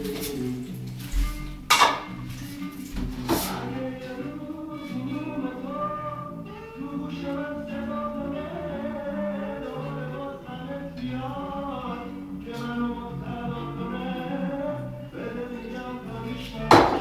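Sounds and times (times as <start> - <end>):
song with singing voice: 0.0 - 17.0.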